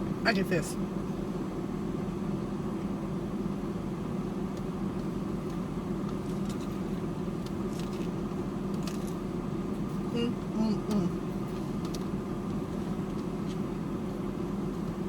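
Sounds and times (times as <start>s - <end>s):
car idling with air conditioner: 0.0s - 15.0s.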